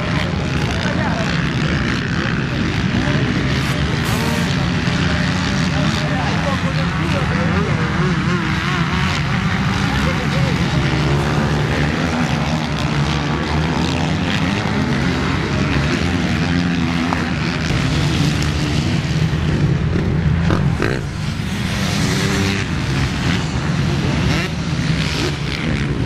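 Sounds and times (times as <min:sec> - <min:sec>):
motocross motorcycle engines revving: 0:00.0 - 0:26.0.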